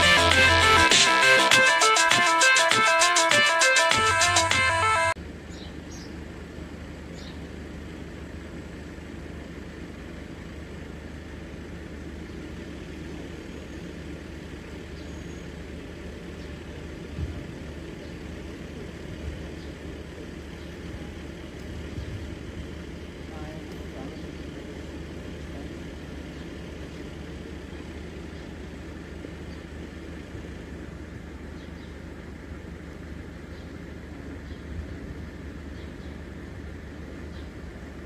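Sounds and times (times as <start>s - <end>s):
idling road traffic hum: 0.0s - 38.0s.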